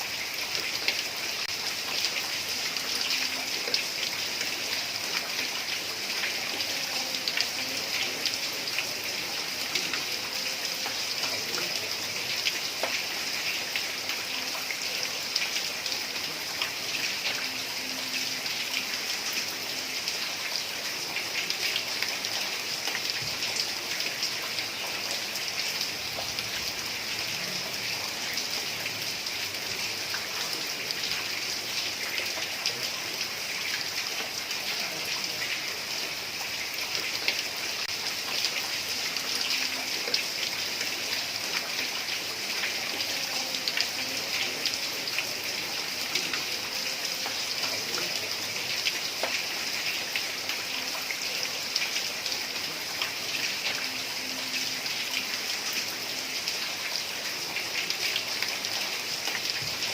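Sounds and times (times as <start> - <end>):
heavy rain on roof tiles: 0.0 - 59.9
sharp ticks of raindrops: 0.0 - 59.9.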